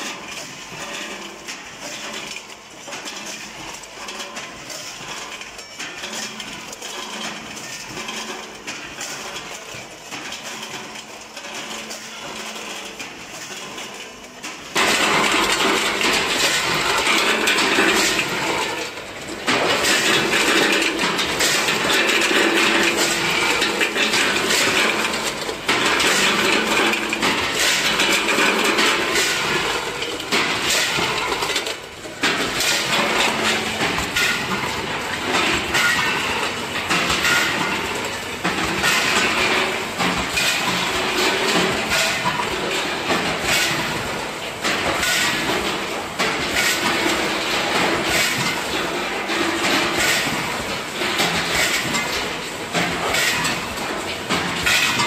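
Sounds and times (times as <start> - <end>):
candies clacking in steel hoppers: 0.0 - 55.0
packing machine rattling: 0.0 - 55.0.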